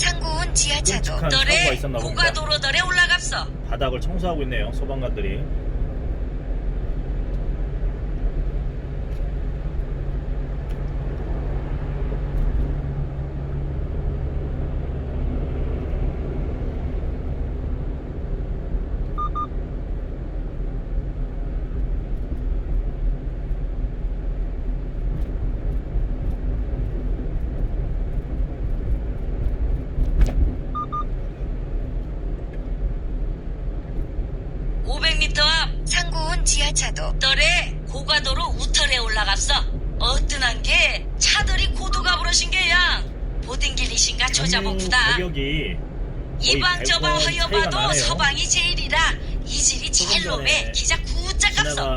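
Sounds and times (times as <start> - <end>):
truck engine and road rumble: 0.0 - 51.9.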